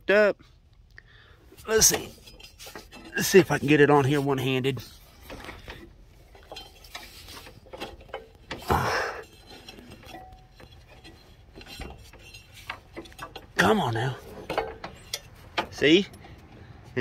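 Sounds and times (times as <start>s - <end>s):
belt rubbing on pulley: 1.6s - 15.8s.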